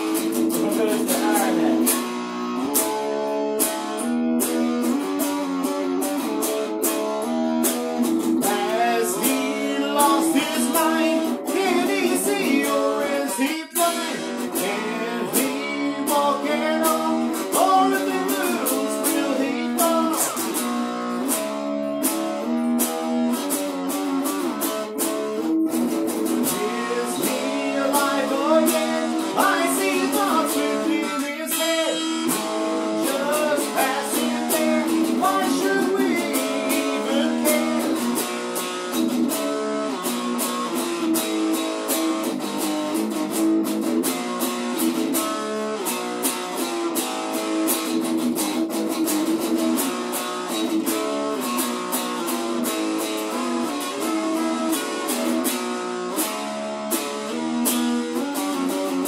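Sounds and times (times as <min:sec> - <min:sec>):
electric guitar rock riff: 0:00.0 - 0:59.0.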